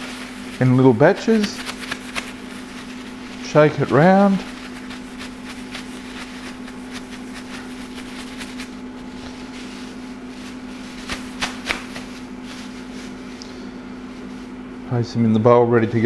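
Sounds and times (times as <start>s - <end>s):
plastic bag crinkling: 0.0s - 13.4s
steady low hum: 0.0s - 16.0s.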